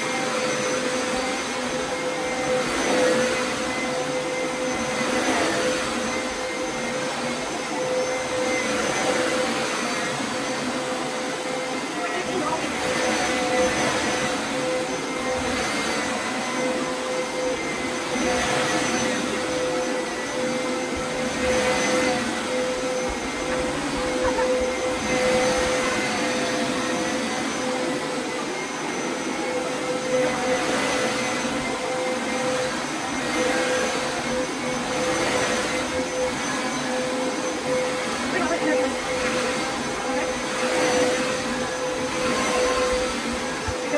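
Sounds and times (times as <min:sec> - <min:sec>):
carpet cleaner motor drone: 0:00.0 - 0:43.9.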